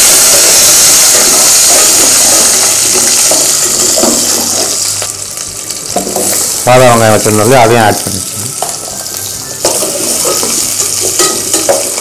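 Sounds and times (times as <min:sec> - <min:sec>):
shallots sizzling in hot oil: 0:00.0 - 0:12.0.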